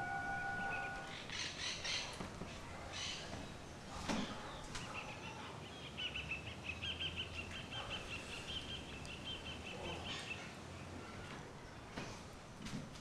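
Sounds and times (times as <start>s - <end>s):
faint steady low hum: 0.0s - 12.9s.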